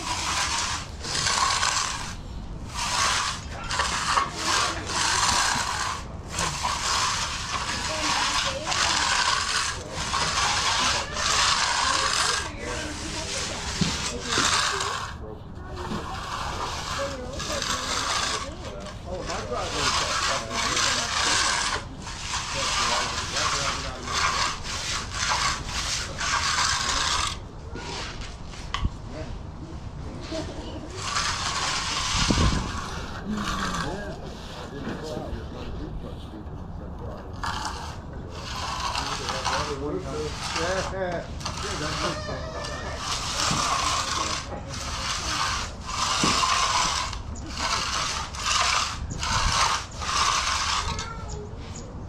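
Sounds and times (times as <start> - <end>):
broom scraping concrete: 0.0 - 36.4, 37.0 - 52.0.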